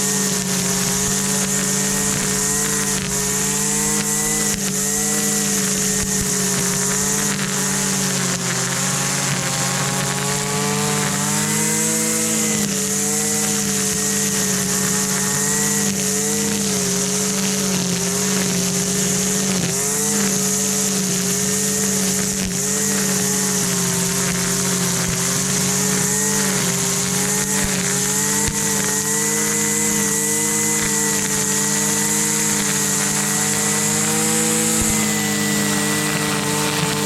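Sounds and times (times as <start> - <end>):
string trimmer engine buzzing: 0.0 - 37.0.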